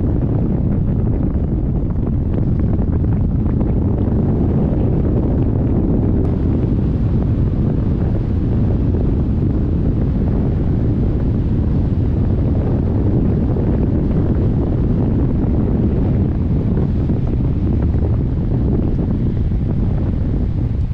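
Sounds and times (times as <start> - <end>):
wind rushing over microphone: 0.0 - 20.9.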